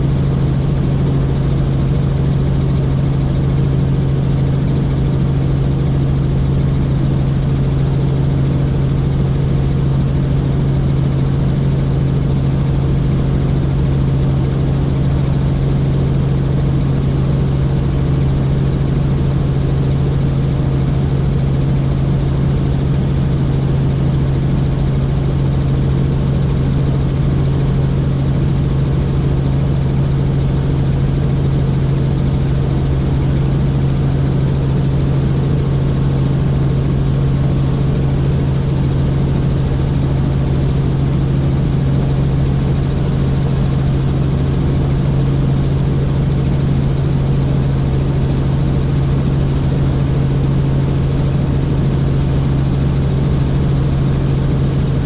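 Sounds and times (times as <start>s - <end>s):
helicopter turbine and rotor drone: 0.0s - 55.0s.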